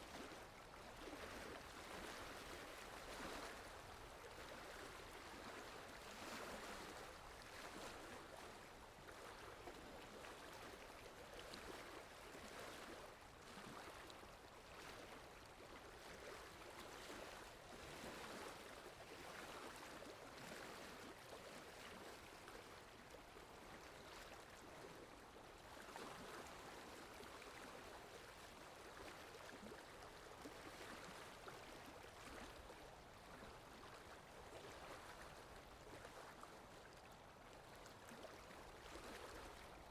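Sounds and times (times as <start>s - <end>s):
faint water lapping: 0.0s - 39.9s
wind: 0.0s - 39.9s.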